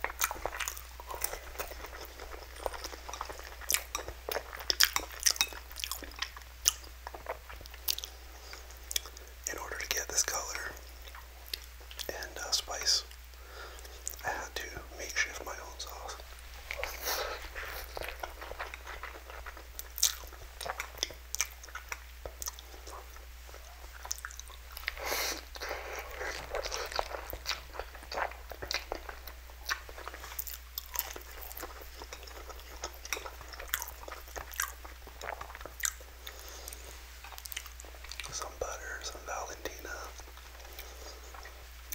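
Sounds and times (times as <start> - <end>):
person chewing and slurping noodles: 0.0 - 9.4, 16.7 - 39.2, 39.8 - 41.9.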